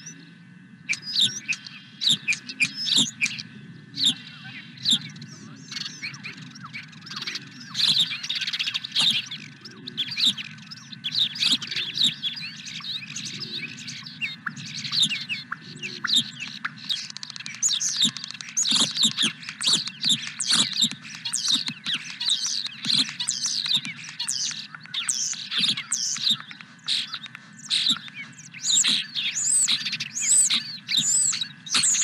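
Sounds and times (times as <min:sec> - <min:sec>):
birds chirping and singing: 0:00.0 - 0:32.0.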